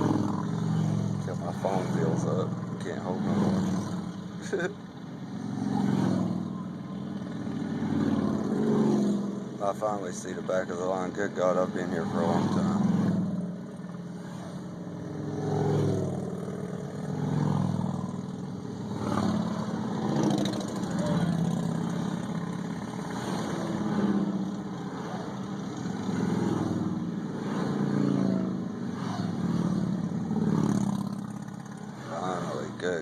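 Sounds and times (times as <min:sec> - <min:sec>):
motor vehicles driving past: 0:00.0 - 0:33.0.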